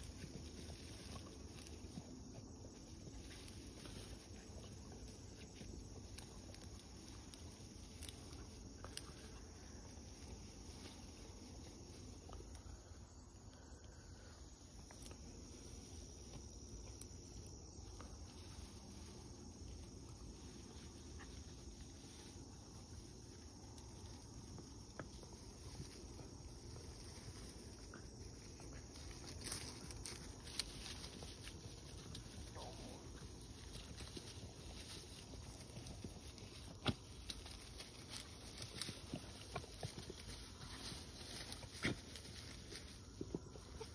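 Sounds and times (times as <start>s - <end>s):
faint insects: 0.0s - 43.9s.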